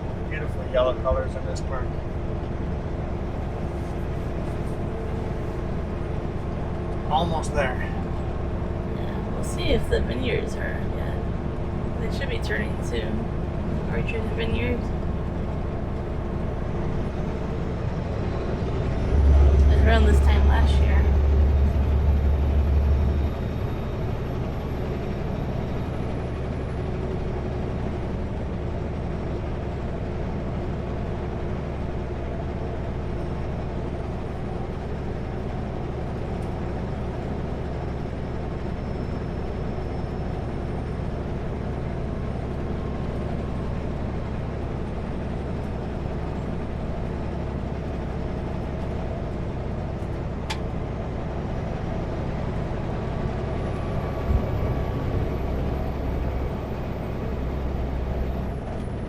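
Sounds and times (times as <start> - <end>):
truck engine drone: 0.0 - 59.0.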